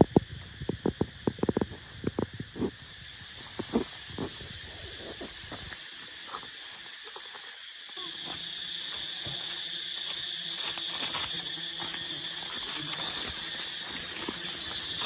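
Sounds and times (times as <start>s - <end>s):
insect buzzing drone: 0.0s - 15.0s.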